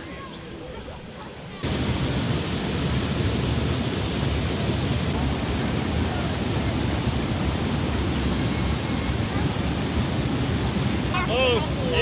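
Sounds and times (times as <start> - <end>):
river rushing over rocks: 1.6 - 12.0.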